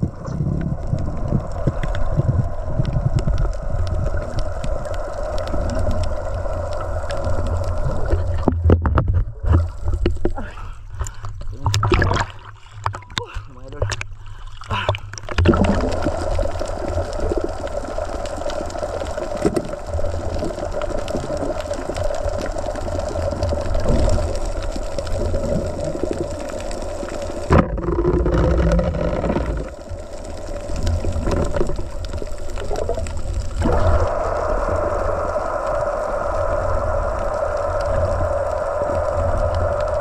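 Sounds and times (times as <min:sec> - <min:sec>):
low rumble of water: 0:00.0 - 0:40.0
underwater hum: 0:00.0 - 0:40.0.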